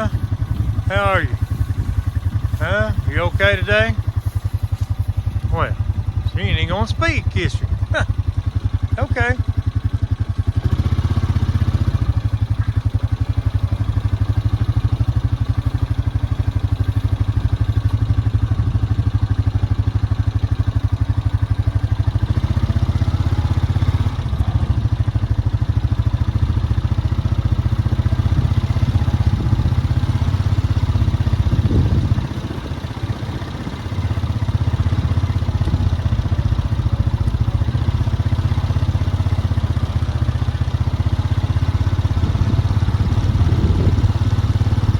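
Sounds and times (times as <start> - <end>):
vehicle engine pulsing: 0.0 - 44.9.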